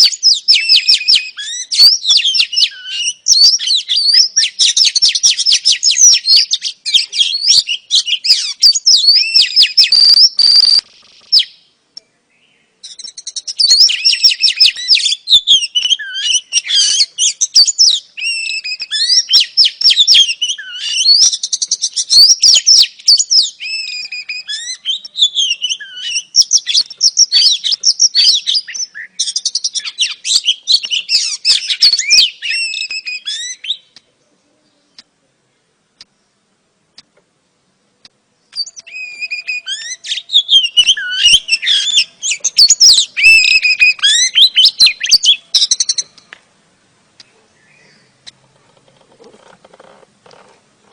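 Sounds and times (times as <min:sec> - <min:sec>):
bird singing chirps and trills: 0:00.0 - 0:35.7, 0:38.4 - 0:46.4, 0:47.2 - 0:50.9.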